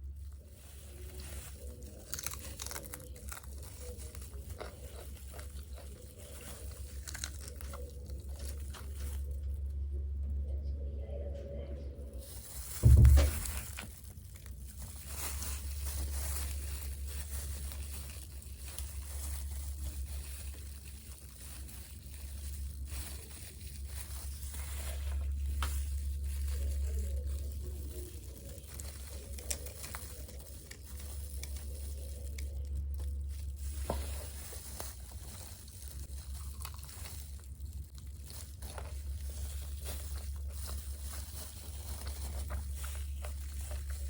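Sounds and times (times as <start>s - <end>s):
chewing crispy food: 0.0s - 10.4s, 12.1s - 44.0s.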